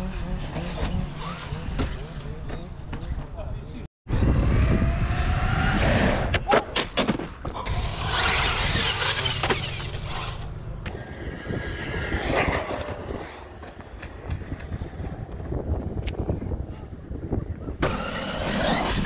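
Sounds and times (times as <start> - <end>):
scraping and squealing: 0.0 - 3.4, 4.5 - 15.2, 17.8 - 19.0.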